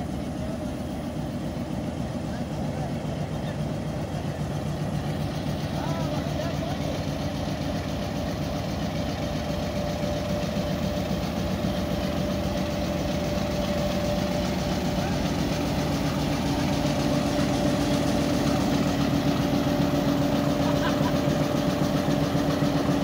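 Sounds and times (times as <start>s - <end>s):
locomotive diesel engine idling: 0.0s - 23.0s.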